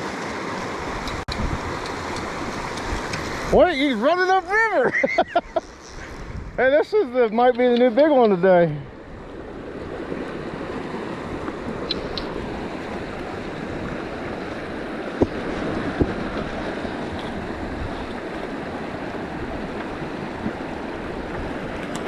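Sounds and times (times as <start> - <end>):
river water rushing: 0.0 - 7.2, 7.8 - 22.0.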